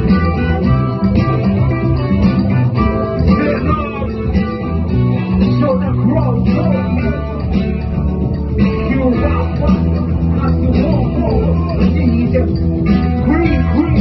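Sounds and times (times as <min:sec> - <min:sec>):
music with prominent guitar: 0:00.0 - 0:14.0.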